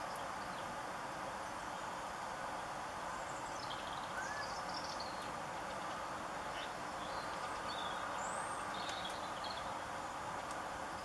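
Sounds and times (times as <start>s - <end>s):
small birds chirping: 0.0s - 2.2s, 3.0s - 11.0s
steady background hiss: 0.0s - 11.0s.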